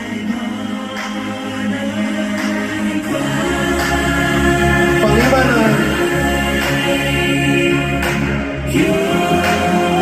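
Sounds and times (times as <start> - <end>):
low bass: 0.0 - 10.0
music with sustained chords: 0.0 - 10.0.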